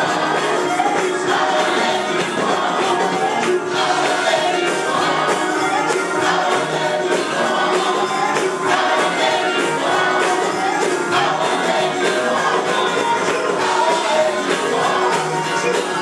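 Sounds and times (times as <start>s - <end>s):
choir singing gospel music: 0.0s - 16.0s.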